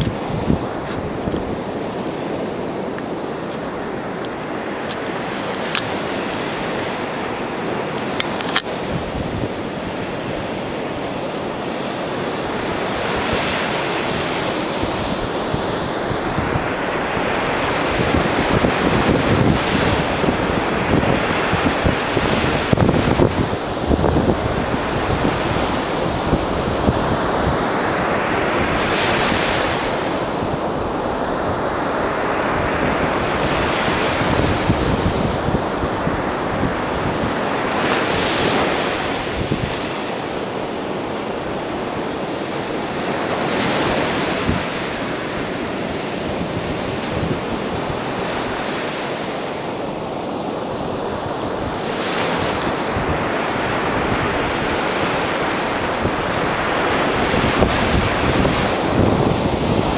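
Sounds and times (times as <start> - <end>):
surf breaking on beach: 0.0 - 59.9
wind buffeting microphone: 0.0 - 59.9.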